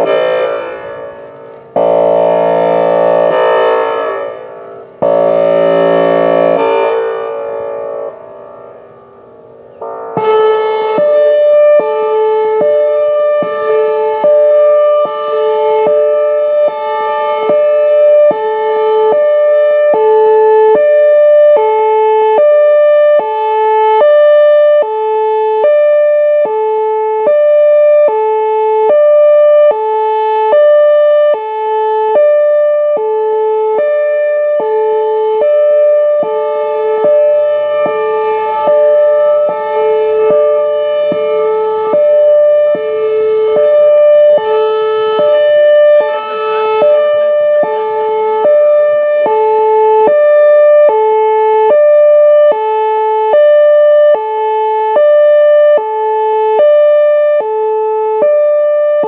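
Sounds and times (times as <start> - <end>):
hi-lo warning siren: 0.0 - 59.0.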